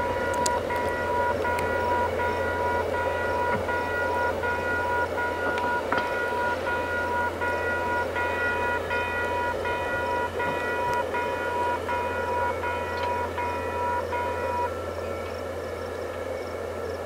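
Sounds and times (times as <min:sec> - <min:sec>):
crossing warning bell ringing: 0:00.0 - 0:17.0
train rumbling past: 0:00.0 - 0:17.0.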